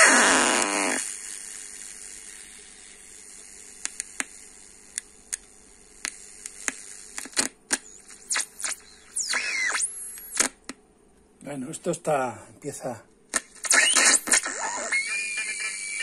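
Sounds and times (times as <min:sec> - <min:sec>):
sharp radio crackles and pops: 0:00.0 - 0:11.6, 0:13.2 - 0:16.0
faint steady hiss: 0:00.0 - 0:16.0.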